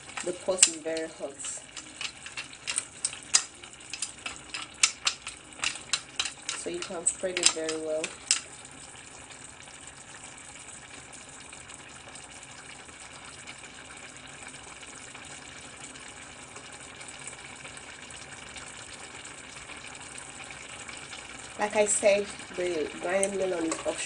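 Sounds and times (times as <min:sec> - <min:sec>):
soup bubbling in a pot: 0:00.0 - 0:24.0.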